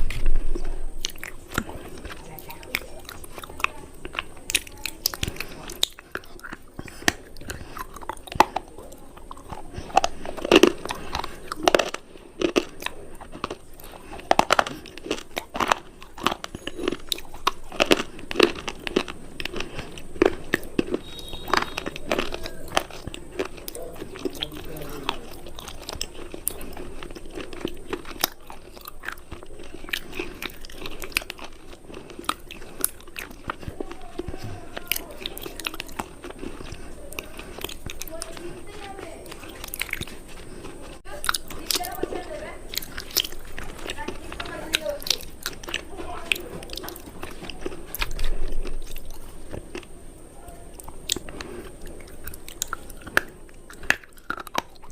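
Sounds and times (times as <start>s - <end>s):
crunchy food being chewed: 0.0s - 54.9s.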